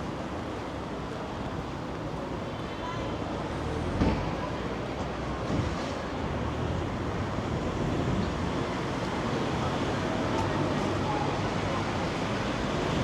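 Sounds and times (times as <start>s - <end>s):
road traffic: 0.5s - 13.0s.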